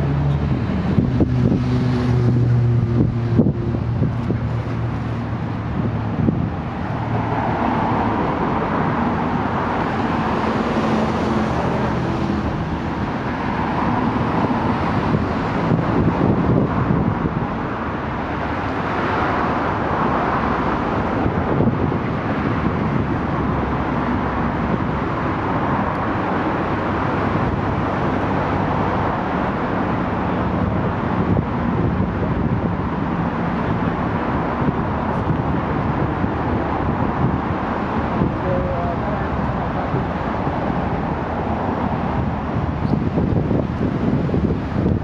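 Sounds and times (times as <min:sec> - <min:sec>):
cars passing on busy road: 0:00.0 - 0:45.0.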